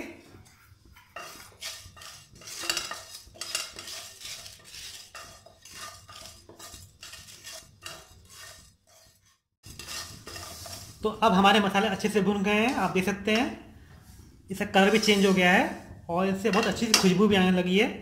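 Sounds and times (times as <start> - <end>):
wooden spatula stirring spices in pan: 0.2 - 17.5.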